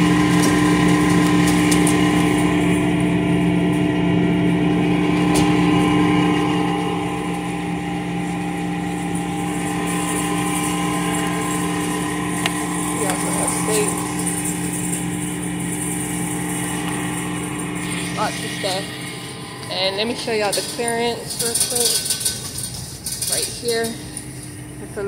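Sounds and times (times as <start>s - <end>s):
refrigerated display case hum: 0.0s - 25.0s.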